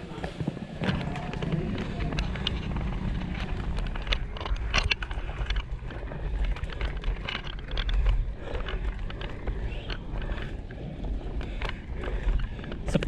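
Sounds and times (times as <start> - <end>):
bike clicks and rattles: 0.0 - 13.0
wind rumble on microphone: 0.0 - 13.0.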